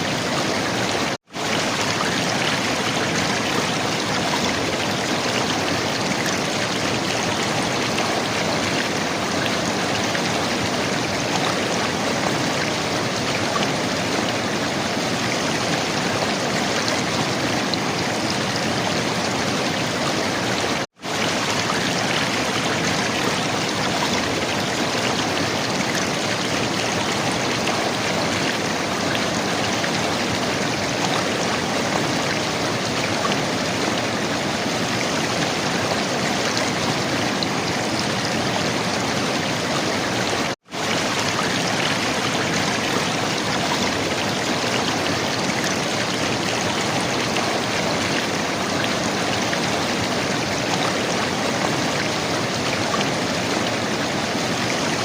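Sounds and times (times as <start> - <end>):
river water gurgling: 0.0 - 55.0.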